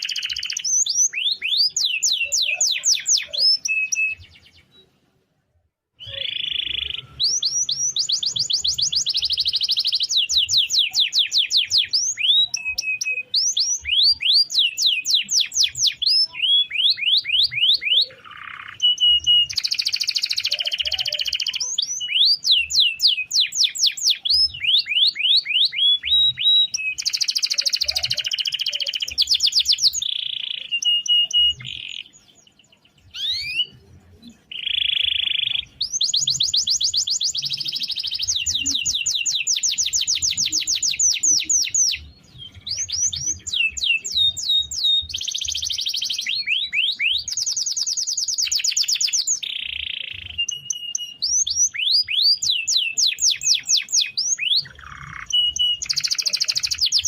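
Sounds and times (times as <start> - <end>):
canary singing trills: 0.0 - 5.0, 6.0 - 57.0.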